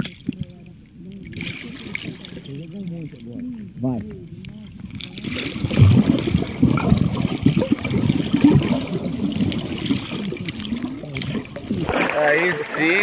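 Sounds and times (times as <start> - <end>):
muffled underwater bubbling: 0.0 - 13.0.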